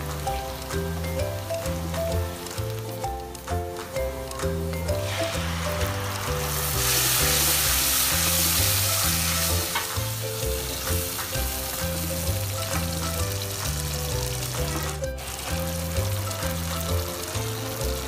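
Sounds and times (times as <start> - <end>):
background music with bass line: 0.0 - 18.0
tomato puree sizzling in oil: 0.0 - 18.0.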